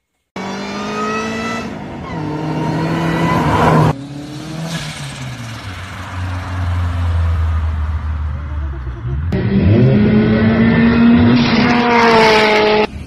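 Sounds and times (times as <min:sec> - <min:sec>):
car engine low drone: 0:00.4 - 0:13.0
car engines revving: 0:00.4 - 0:13.0.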